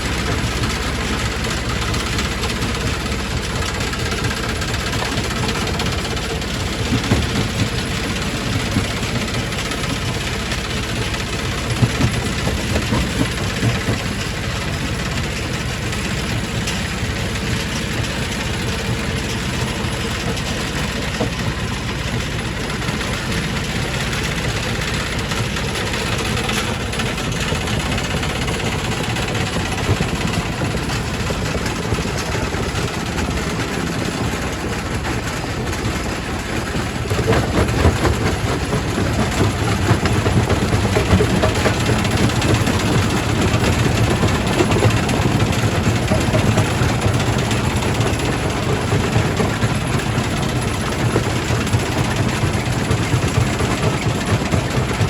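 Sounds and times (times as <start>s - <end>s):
rock crusher running: 0.0s - 55.0s.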